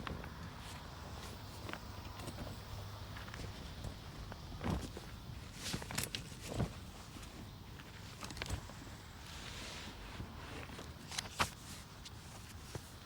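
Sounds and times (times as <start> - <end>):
soft rustle: 0.4 - 13.0.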